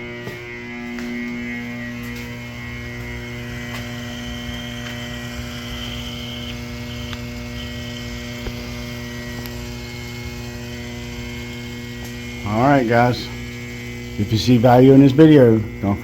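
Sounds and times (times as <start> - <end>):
electric pump humming: 0.0 - 16.0
faint high whine: 0.0 - 16.0.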